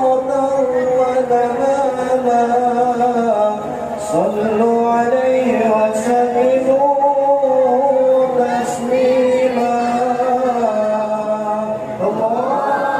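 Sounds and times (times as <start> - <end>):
man singing ornamented melody: 0.0 - 12.9.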